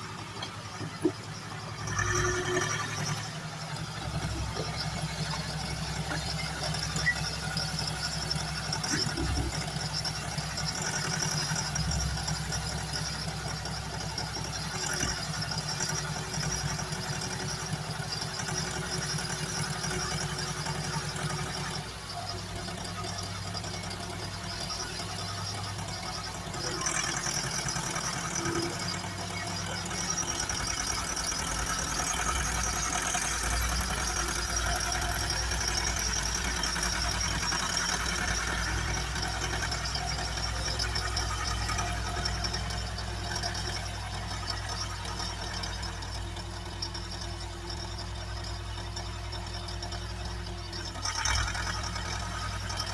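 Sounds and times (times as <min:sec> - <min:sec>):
backhoe diesel engine running: 0:00.0 - 0:52.9.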